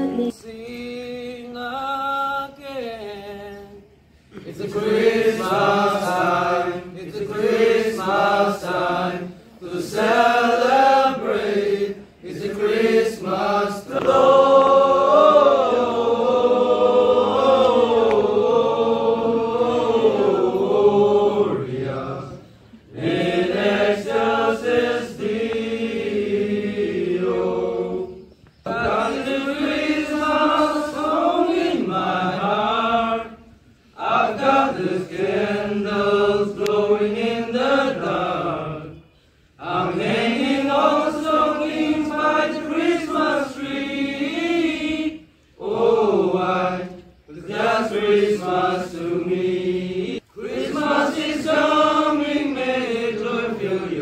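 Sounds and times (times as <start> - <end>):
men singing unaccompanied: 0.0 - 54.0.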